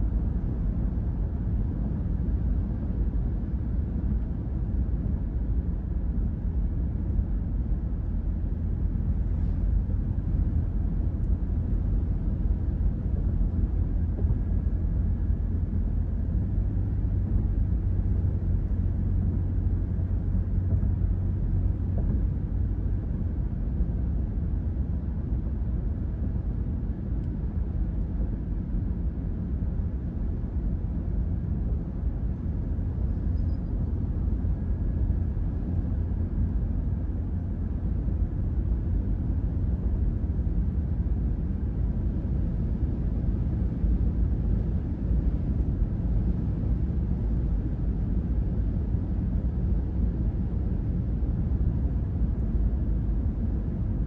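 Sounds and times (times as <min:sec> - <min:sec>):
car road hum inside vehicle: 0:00.0 - 0:54.0.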